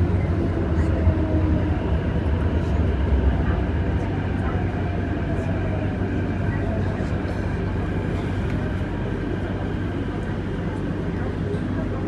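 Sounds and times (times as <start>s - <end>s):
metro train running rumble: 0.0s - 12.0s.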